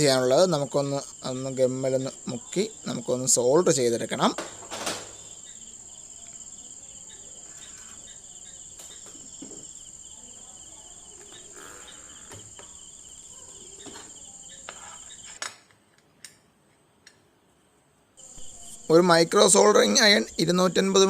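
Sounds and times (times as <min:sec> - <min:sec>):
crickets chirping: 0:00.0 - 0:15.5, 0:18.2 - 0:21.0.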